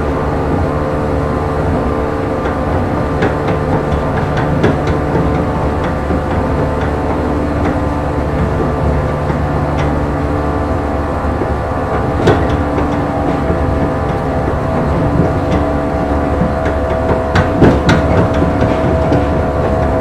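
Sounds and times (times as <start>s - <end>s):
train motors humming: 0.0s - 20.0s
wheels rumbling on rails: 0.0s - 20.0s.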